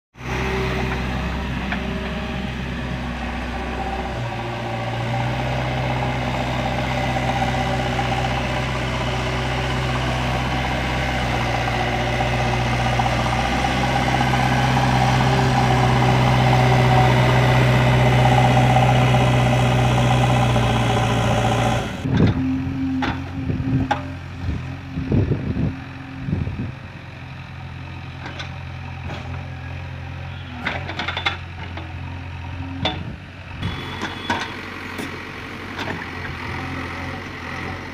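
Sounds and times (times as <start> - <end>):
diesel engine running: 0.2 - 37.9.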